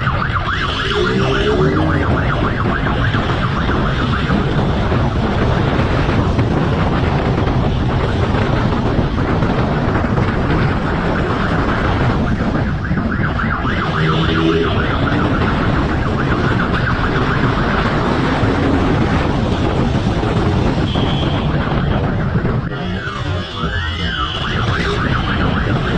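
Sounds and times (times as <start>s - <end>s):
loud wind noise: 0.0s - 25.9s
motorcycle running: 0.0s - 25.9s
siren: 0.0s - 25.9s.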